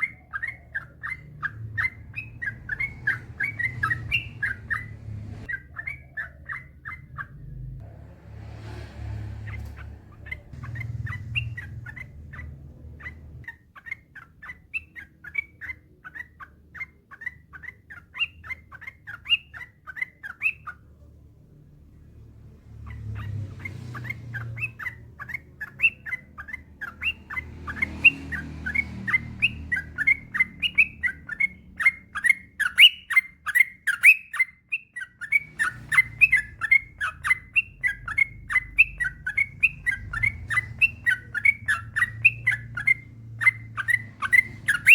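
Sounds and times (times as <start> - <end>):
bulbul chattering song: 0.0 - 7.8, 9.4 - 21.5, 22.1 - 44.9
faint low hum: 0.0 - 44.9.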